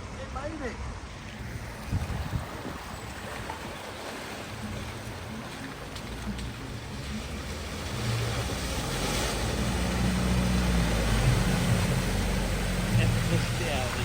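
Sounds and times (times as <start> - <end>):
water washing: 0.9 - 14.0
car engine hum: 1.1 - 14.0.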